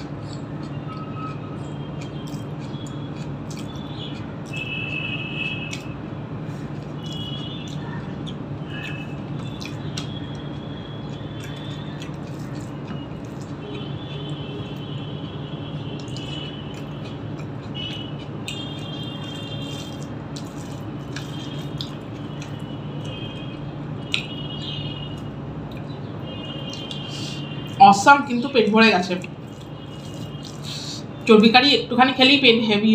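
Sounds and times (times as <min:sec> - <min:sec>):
mouth chewing: 0:00.0 - 0:28.1, 0:29.1 - 0:31.4.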